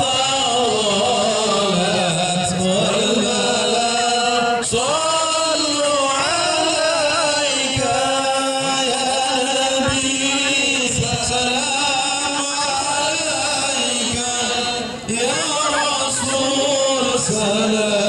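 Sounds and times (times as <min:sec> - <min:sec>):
men chanting devotional song: 0:00.0 - 0:18.0.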